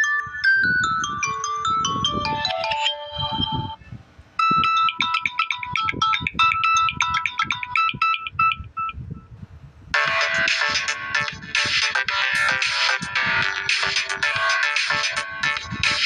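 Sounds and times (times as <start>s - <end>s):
phone ringtone melody: 0.0s - 3.8s, 4.4s - 9.0s, 9.9s - 16.0s.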